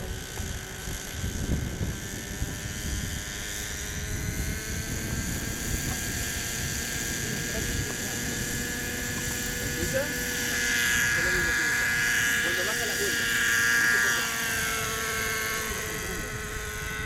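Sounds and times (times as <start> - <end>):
model helicopter engine whine: 0.0 - 17.0.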